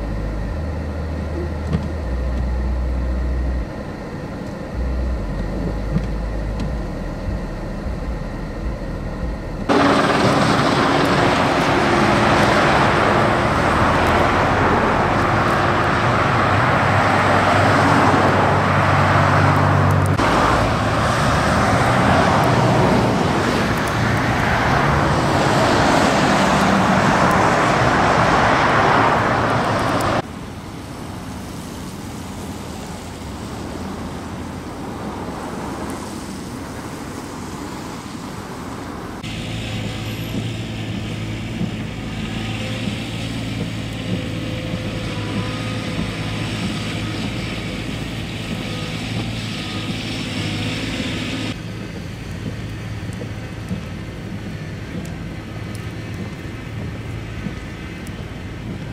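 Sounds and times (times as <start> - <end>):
low engine hum: 0.0 - 58.9
tyres on wet pavement: 0.0 - 58.9
vehicle engines: 0.0 - 58.9.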